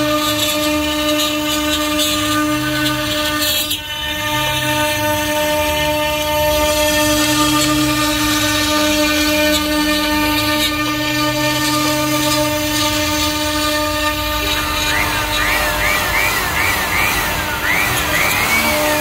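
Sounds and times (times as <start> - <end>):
power tool whining: 0.0 - 19.0.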